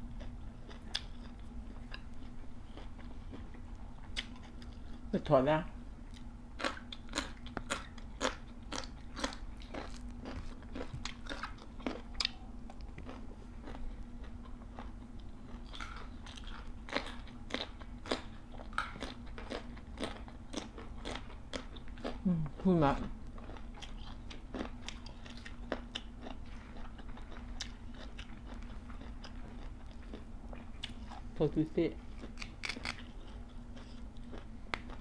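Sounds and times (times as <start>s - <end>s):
crunching and chewing raw vegetables: 0.0s - 5.1s, 6.0s - 35.0s.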